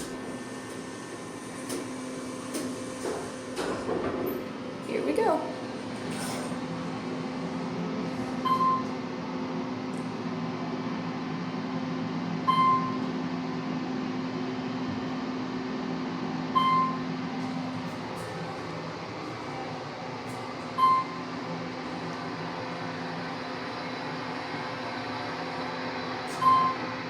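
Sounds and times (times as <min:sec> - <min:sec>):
elevator motor hum: 0:00.0 - 0:27.0.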